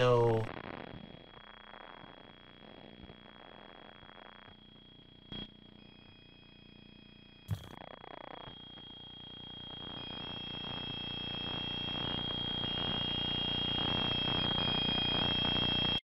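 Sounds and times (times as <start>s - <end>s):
electronic crackling static: 0.0s - 16.0s.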